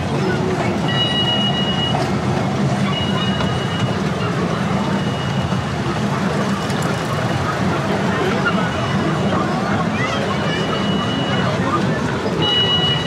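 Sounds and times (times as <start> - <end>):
ride-on train low rumble: 0.0 - 13.0.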